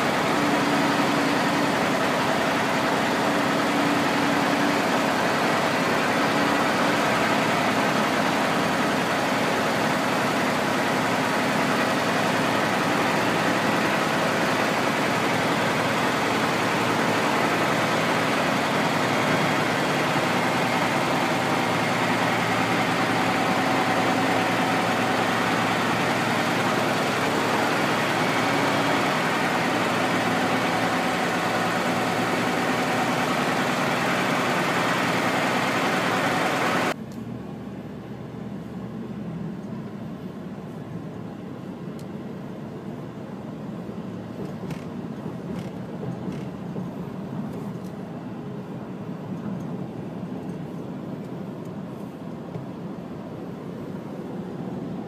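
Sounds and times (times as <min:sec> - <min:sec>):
road and tyre noise: 0:00.0 - 0:55.0
truck engine hum: 0:00.0 - 0:55.0.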